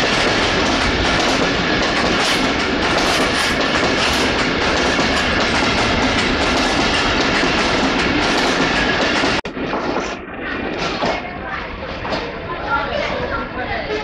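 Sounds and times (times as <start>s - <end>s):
train wheels rushing over rails: 0.0s - 14.0s.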